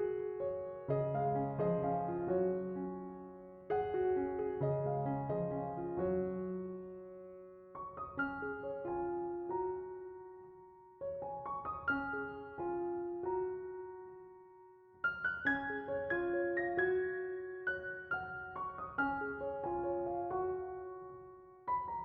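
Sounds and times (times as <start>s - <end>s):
soft solo piano music: 0.0s - 22.0s.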